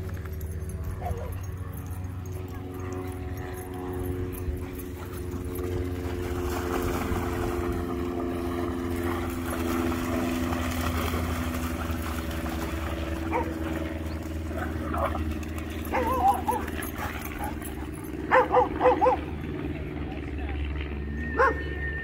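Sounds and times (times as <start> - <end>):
motor engine running: 0.0 - 22.0.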